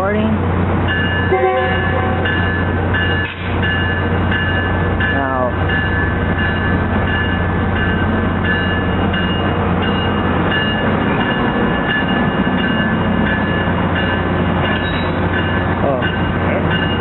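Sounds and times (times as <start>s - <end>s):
diesel locomotive running: 0.0s - 17.0s.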